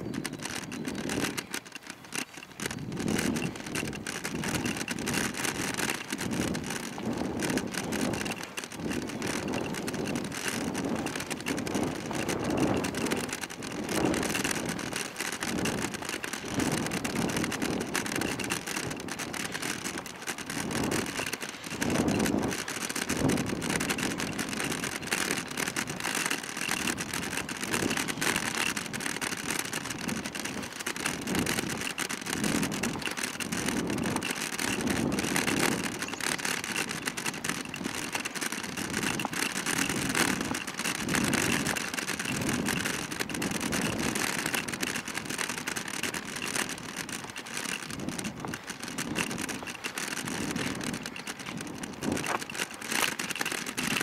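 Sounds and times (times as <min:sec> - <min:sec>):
scooter wheels rolling on pavement: 0:00.0 - 0:54.0.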